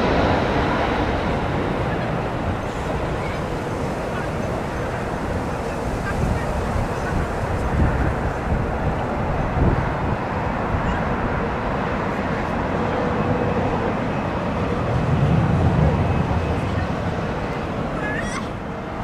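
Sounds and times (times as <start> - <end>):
jet engine noise: 0.0 - 19.0
wind buffeting microphone: 0.0 - 19.0.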